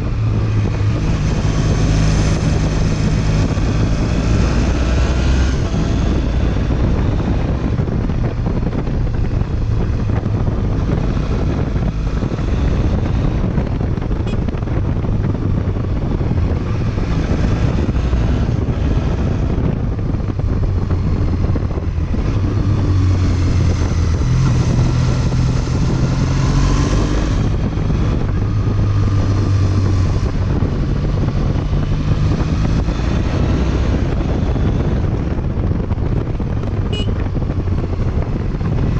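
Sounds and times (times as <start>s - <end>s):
motorcycle engine accelerating: 0.0s - 38.9s
wind noise on microphone: 0.0s - 38.9s.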